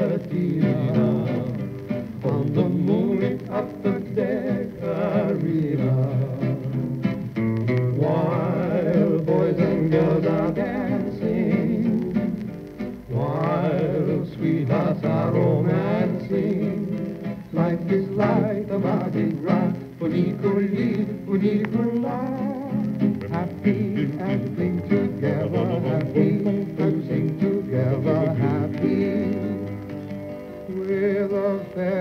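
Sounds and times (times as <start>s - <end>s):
plucked guitar chords: 0.0s - 32.0s
vocal duet on old record: 0.0s - 32.0s.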